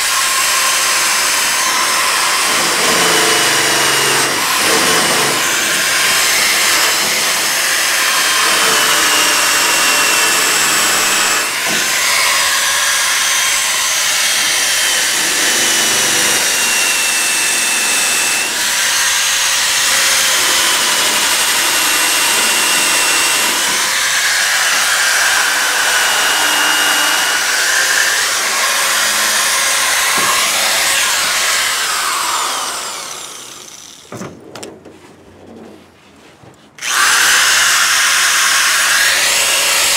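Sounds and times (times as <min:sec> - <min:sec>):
electric drill motor whine: 0:00.0 - 0:34.1, 0:36.8 - 0:39.9.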